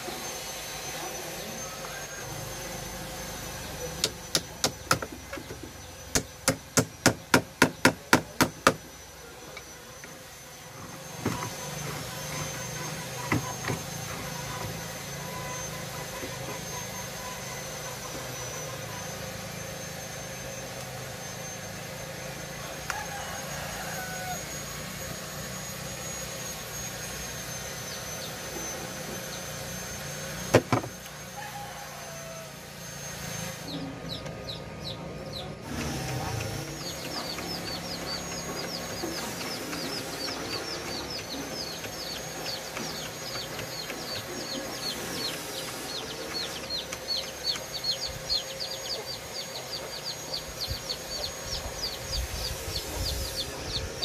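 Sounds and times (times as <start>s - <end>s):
steady high whine: 0.0s - 54.0s.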